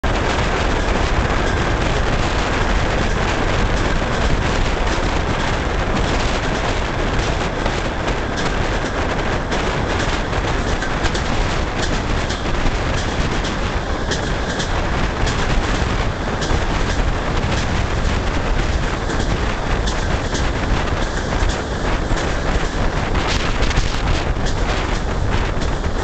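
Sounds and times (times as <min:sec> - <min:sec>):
train rolling and rushing: 0:00.0 - 0:26.0
wheels clicking over rail joints: 0:00.0 - 0:26.0.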